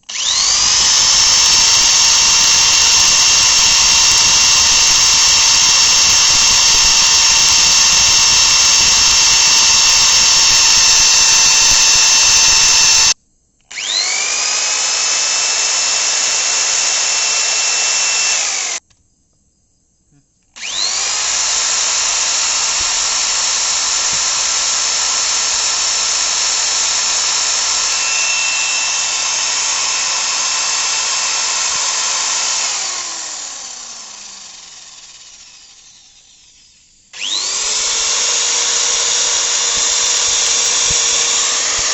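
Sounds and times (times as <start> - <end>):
electric drill motor whining: 0.0 - 18.8, 20.6 - 41.9.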